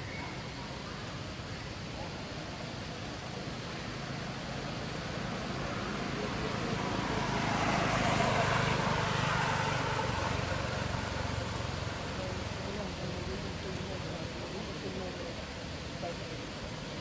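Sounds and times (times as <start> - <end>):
vehicle passing on road: 2.7 - 17.0.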